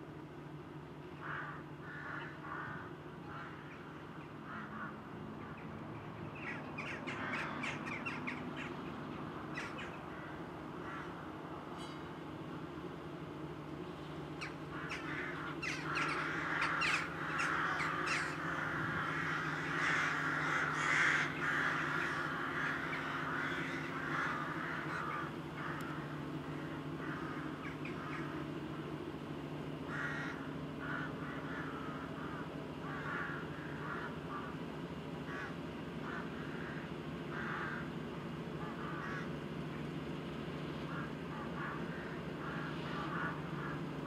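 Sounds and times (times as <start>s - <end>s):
diesel locomotive engine humming: 0.0s - 44.0s
crows cawing: 1.0s - 12.0s, 14.3s - 44.0s.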